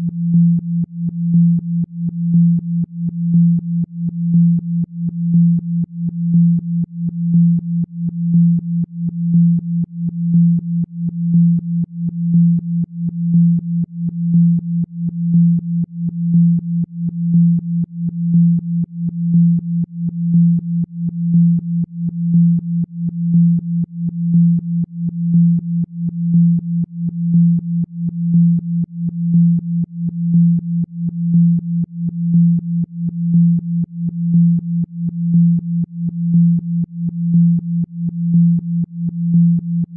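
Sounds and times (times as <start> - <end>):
pulsing low electronic tone: 0.0 - 39.9.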